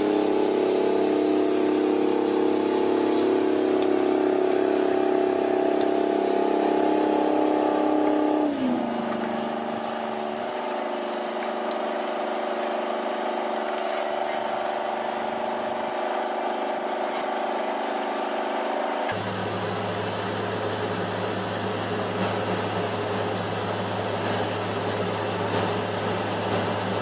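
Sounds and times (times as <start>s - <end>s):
tractor diesel engine under load: 0.0s - 27.0s.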